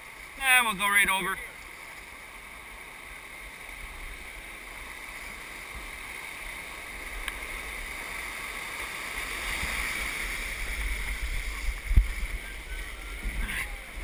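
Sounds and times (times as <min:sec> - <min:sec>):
rushing whitewater hiss: 0:00.0 - 0:14.0.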